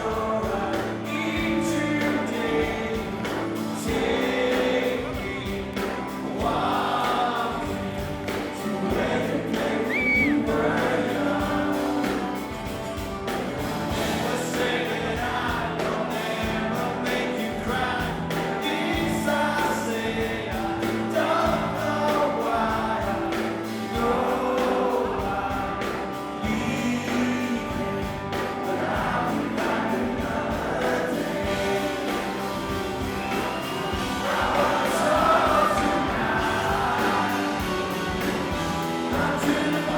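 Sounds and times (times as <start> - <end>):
crowd singing along: 0.0 - 39.9
live rock band playing: 0.0 - 39.9
male lead singer: 0.0 - 39.9.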